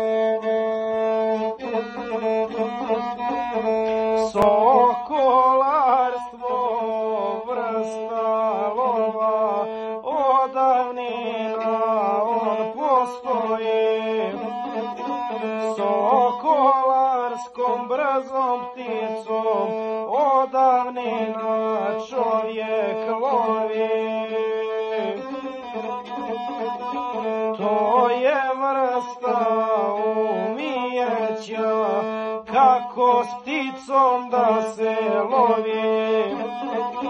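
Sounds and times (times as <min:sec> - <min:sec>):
bowed folk fiddle solo: 0:00.0 - 0:37.0.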